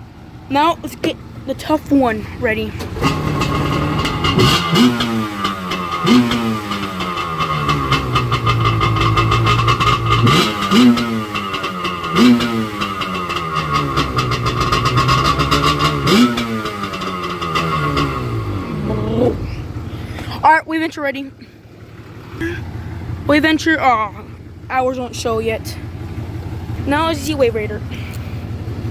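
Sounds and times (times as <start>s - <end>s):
jet ski engine revving: 0.0s - 28.9s.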